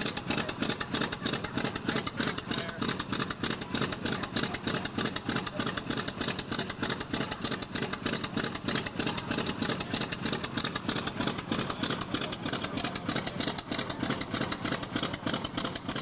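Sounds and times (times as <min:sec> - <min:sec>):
radial engine idling: 0:00.0 - 0:16.0.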